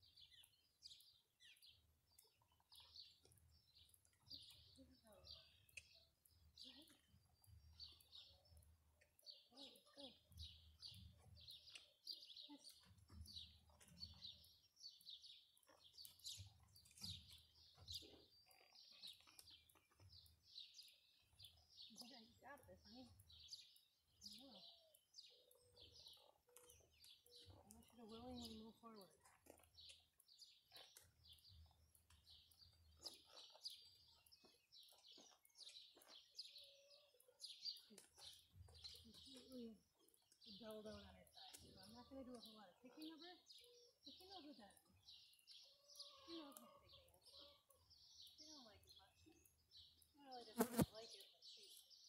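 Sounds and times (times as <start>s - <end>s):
songbirds chirping faintly: 0.0s - 52.0s.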